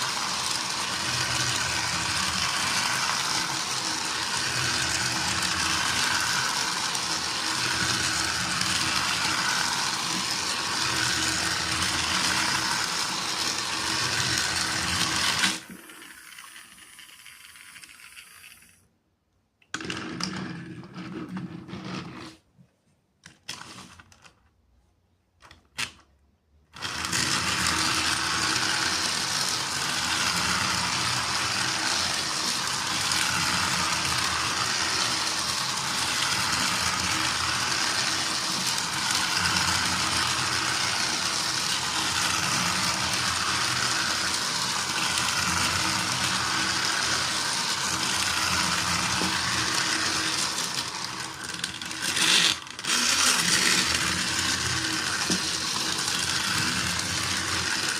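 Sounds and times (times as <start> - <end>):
toy train motor whirring: 0.0 - 18.8, 23.5 - 24.1, 26.8 - 57.9.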